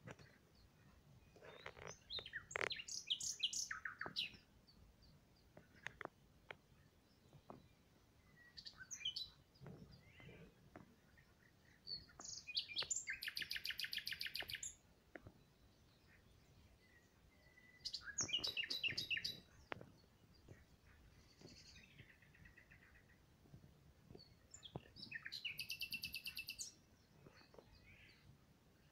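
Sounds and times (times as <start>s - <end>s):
songbird singing: 0.0s - 28.9s.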